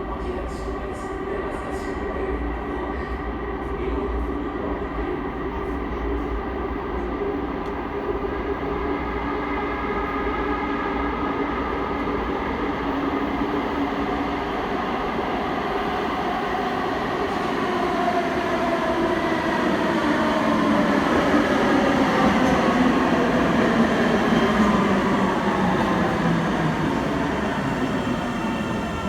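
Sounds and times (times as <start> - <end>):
light rail train rumbling: 0.0 - 29.0.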